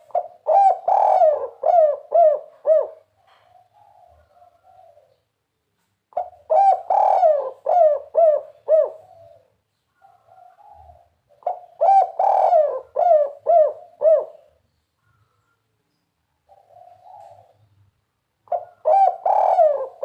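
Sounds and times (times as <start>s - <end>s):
dove cooing: 0.0s - 5.2s, 6.1s - 15.3s, 16.4s - 17.8s, 18.4s - 20.0s.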